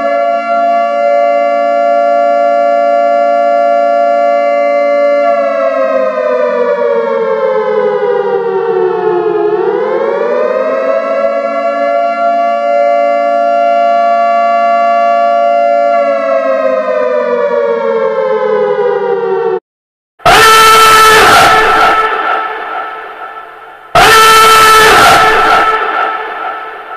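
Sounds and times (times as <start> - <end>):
siren wailing: 0.0 - 19.6, 20.2 - 26.9.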